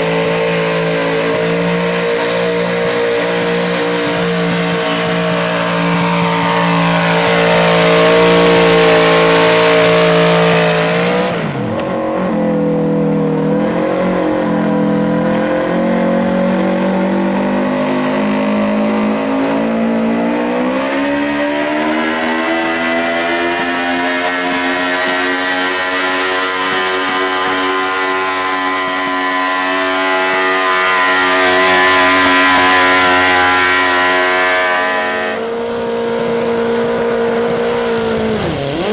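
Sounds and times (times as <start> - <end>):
tractor engine revving high: 0.0 - 38.9.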